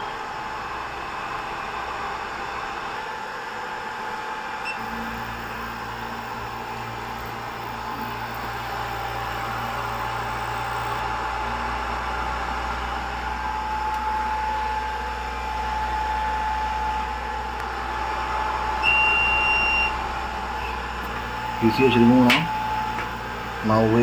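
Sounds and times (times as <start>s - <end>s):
hot air blower whirring: 4.4s - 24.0s.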